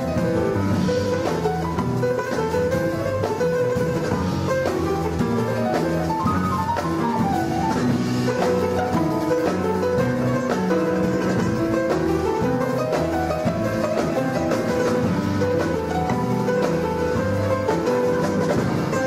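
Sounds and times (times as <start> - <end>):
double bass: 0.0 - 19.0
drum kit: 0.0 - 19.0
piano: 0.0 - 19.0.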